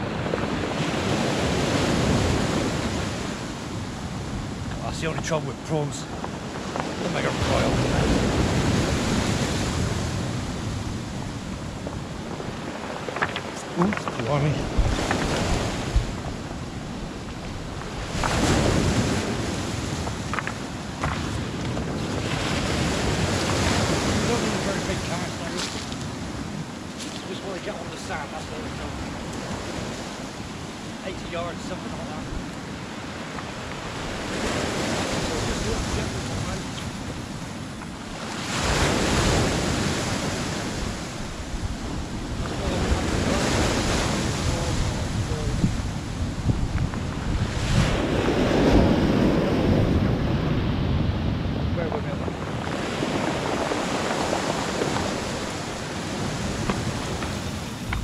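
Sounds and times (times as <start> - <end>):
waves washing over pebble beach: 0.0 - 58.0
wind buffeting microphone: 0.0 - 58.0.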